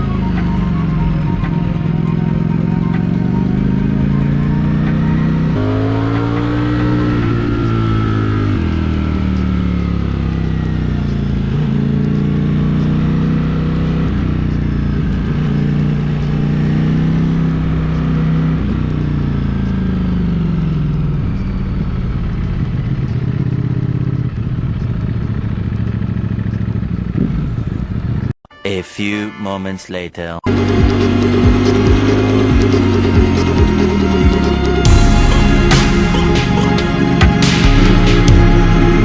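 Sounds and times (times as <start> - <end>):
motorcycle engine revving: 0.0 - 28.3, 30.5 - 39.0.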